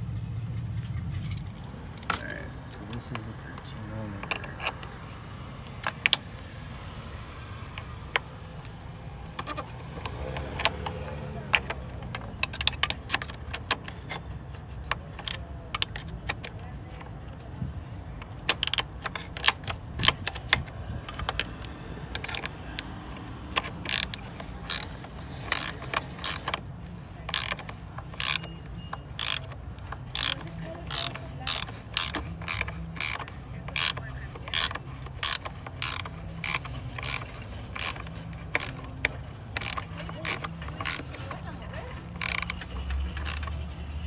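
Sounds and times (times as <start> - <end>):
ratcheting wrench clicking: 4.2 - 5.0, 5.6 - 6.3, 7.8 - 44.0.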